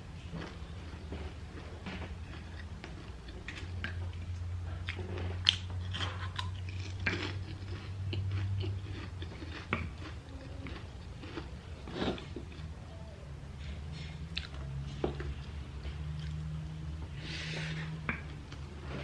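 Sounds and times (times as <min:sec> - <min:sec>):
person chewing crunchy food: 0:00.2 - 0:12.8, 0:13.9 - 0:16.6.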